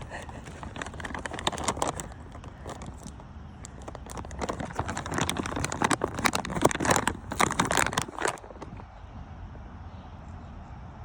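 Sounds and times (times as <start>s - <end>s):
raindrops pattering: 0.0s - 8.9s.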